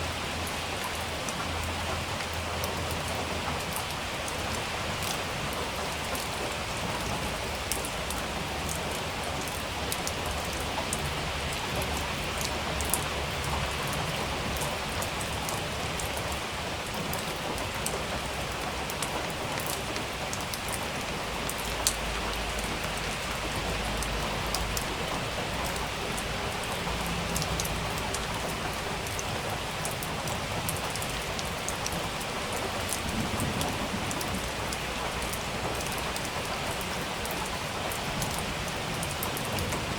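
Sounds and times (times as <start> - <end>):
raindrops ticking: 0.1 - 39.9.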